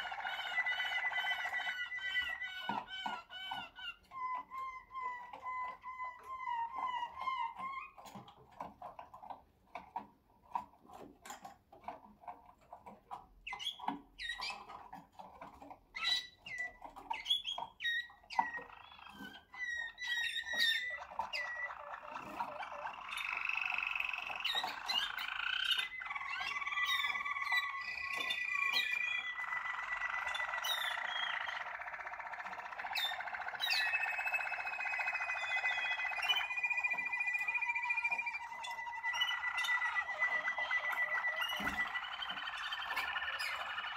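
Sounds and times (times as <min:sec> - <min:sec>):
canaries singing: 0:00.0 - 0:43.9.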